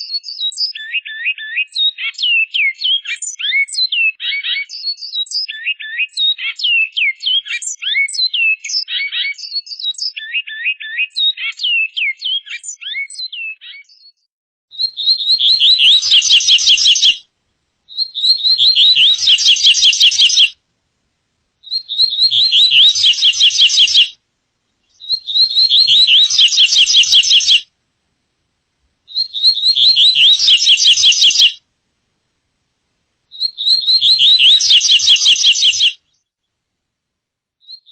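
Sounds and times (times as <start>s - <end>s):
songbird singing: 0.0s - 20.6s, 21.6s - 27.7s, 29.0s - 31.7s, 33.3s - 36.6s, 37.6s - 37.9s.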